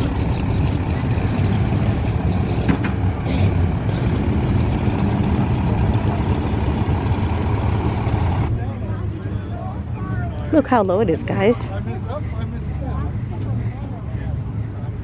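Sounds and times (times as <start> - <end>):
vehicle engine running low: 0.0 - 15.0.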